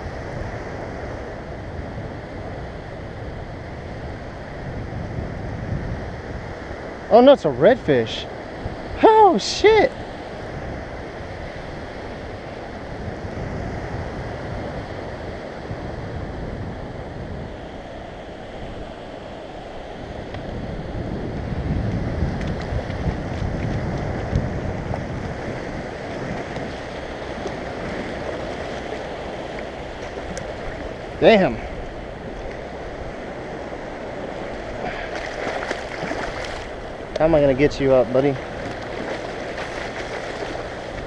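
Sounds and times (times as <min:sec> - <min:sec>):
surf washing onto beach: 0:00.0 - 0:41.0
wind rumbling on microphone: 0:00.0 - 0:41.0.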